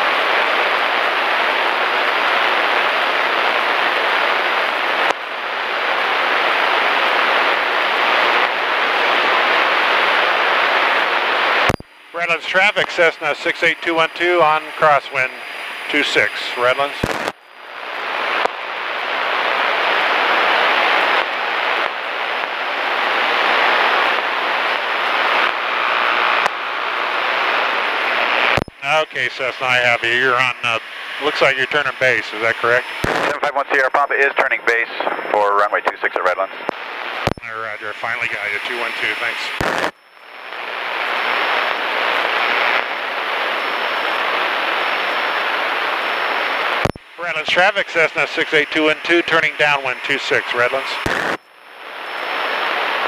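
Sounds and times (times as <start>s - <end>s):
radio intercom rushing hiss: 5.6s - 53.0s.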